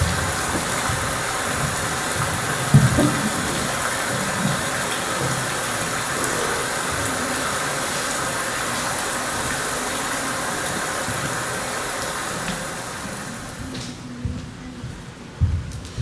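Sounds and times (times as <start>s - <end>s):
running water hiss: 0.0s - 14.2s.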